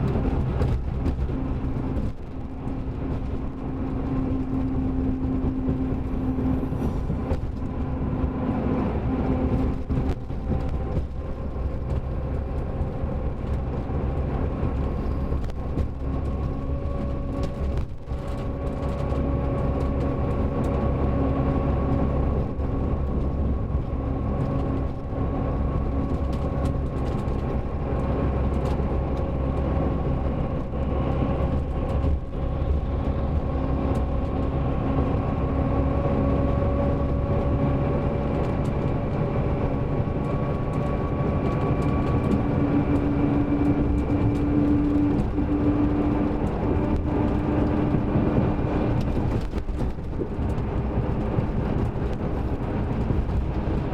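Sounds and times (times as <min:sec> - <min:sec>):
diesel coach engine running: 0:00.0 - 0:53.9.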